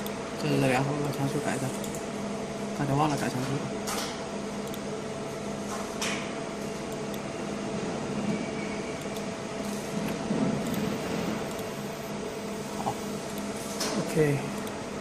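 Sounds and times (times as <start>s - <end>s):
machine electrical hum: 0.0s - 15.0s.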